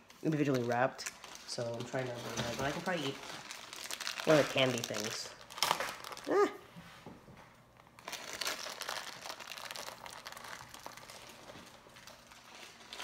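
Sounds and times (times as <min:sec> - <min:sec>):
plastic wrappers crinkling: 0:00.0 - 0:06.6, 0:07.8 - 0:13.0.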